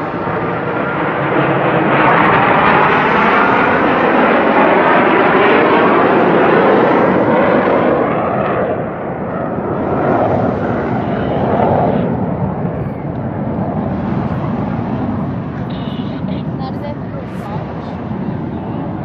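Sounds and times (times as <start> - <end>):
military jets flying past: 0.0 - 19.0.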